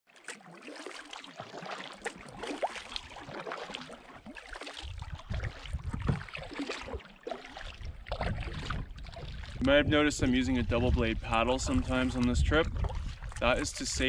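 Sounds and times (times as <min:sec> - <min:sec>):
paddle splashing water: 0:00.1 - 0:14.0.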